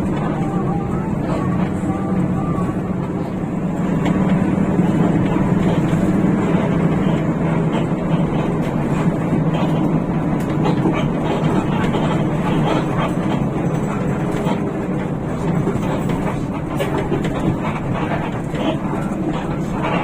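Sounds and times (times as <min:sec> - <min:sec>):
bus diesel engine droning: 0:00.0 - 0:20.0.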